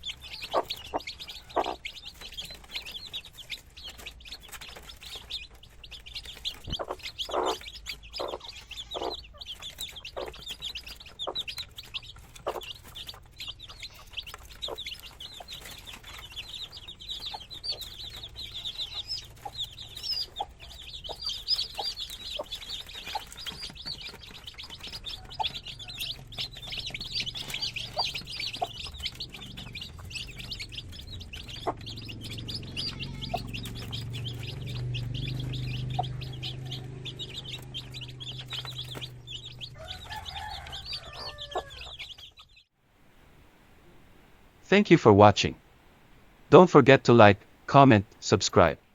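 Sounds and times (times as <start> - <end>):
chickens clucking: 0.0 - 42.7
chicks peeping and chirping: 0.0 - 42.7.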